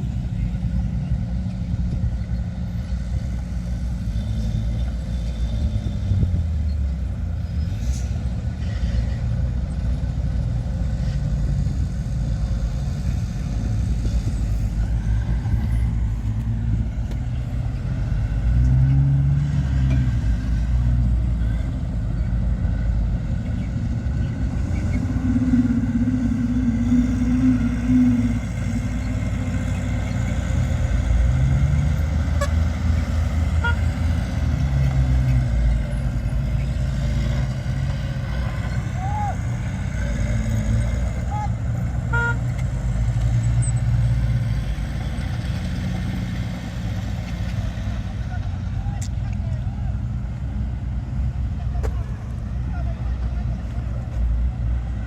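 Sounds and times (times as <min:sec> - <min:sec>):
diesel engines droning under load: 0:00.0 - 0:55.0.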